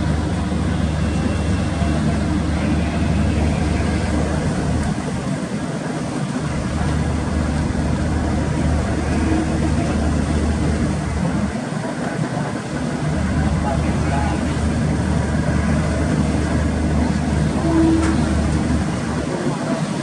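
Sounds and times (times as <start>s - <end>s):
ship engines droning: 0.0s - 20.0s
wind and sea noise: 0.0s - 20.0s.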